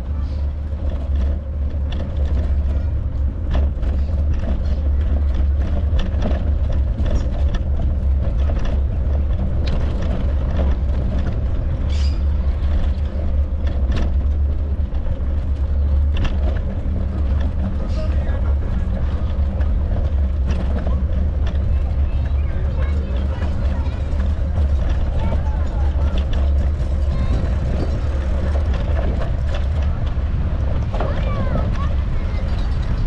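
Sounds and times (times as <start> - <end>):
bicycle rattling over paving: 0.0 - 33.0
wind on microphone: 0.0 - 33.0.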